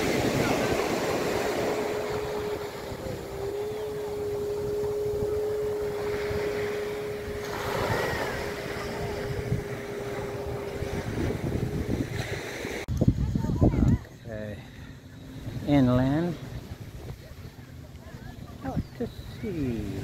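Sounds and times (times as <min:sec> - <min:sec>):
motorboat engine humming: 0:00.0 - 0:12.9, 0:14.1 - 0:20.0
surf washing on beach: 0:00.0 - 0:20.0
wind on microphone: 0:00.0 - 0:20.0.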